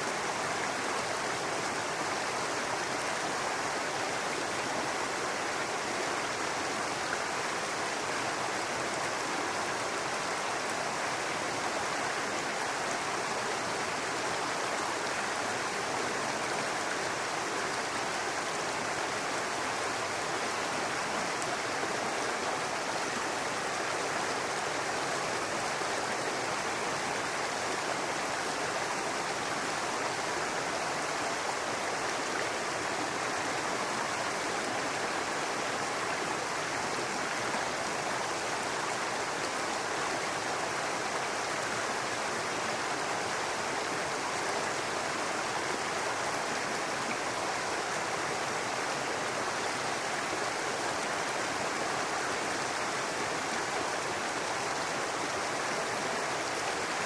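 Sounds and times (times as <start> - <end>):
brook babbling over rocks: 0.0 - 57.0.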